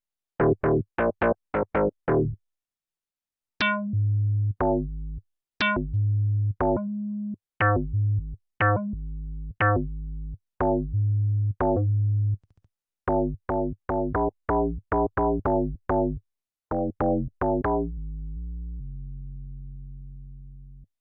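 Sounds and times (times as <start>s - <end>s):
deep synth bass notes: 0.4s - 2.4s, 3.6s - 7.0s, 7.6s - 12.4s, 13.1s - 20.9s.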